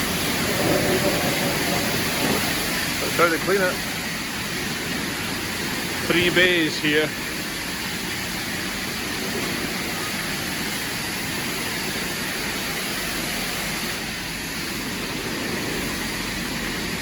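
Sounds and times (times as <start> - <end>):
high-pressure water spray hissing: 0.0 - 17.0.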